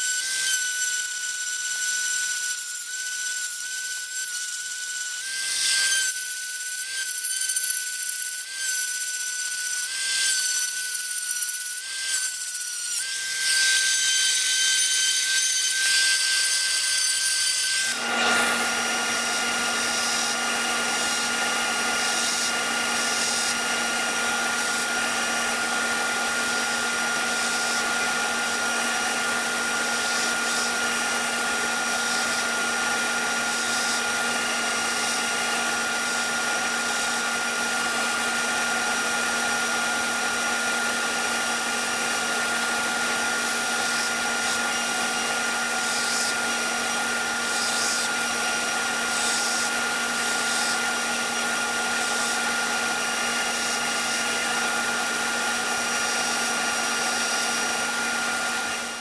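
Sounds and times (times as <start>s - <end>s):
electric motor humming and whining: 0.0s - 59.0s.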